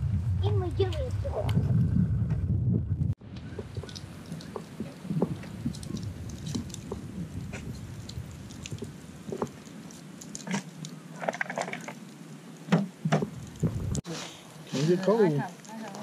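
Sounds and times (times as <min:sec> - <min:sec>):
low fire rumble: 0:00.0 - 0:16.0
wood fire crackling and popping: 0:02.9 - 0:16.0.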